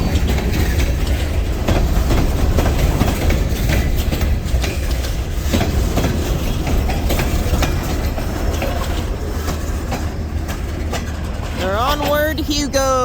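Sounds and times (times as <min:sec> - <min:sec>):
freight train rumbling past: 0:00.0 - 0:13.0
wheels clicking over rail joints: 0:00.0 - 0:13.0.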